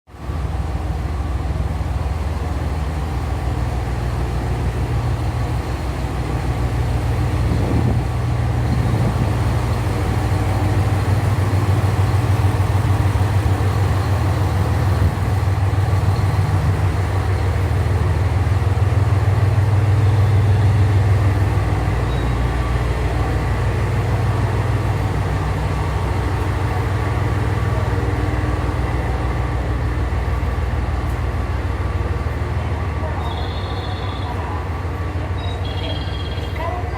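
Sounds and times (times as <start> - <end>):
diesel engines idling: 0.2 - 36.9.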